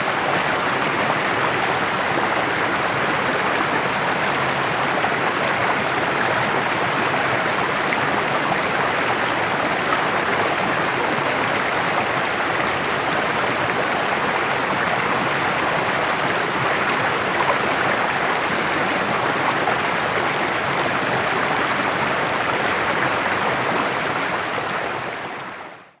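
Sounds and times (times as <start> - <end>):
creek babbling over stones: 0.0 - 25.6.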